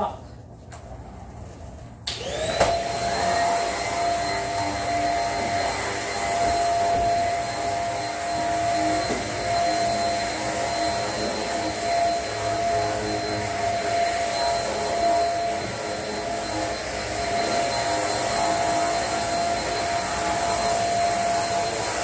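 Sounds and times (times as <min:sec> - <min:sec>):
vacuum cleaner motor whine: 0:02.0 - 0:22.0.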